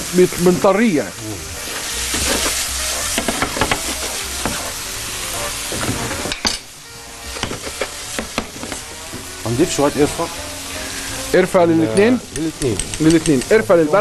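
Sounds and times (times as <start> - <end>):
apples sizzling in a pan: 0.0 - 14.0
utensil stirring against pan: 1.6 - 6.4, 7.2 - 14.0.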